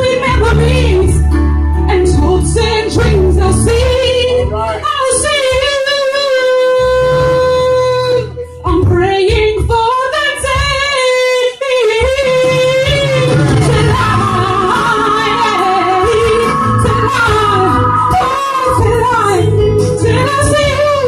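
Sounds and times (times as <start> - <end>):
woman singing into microphone: 0.0 - 21.0.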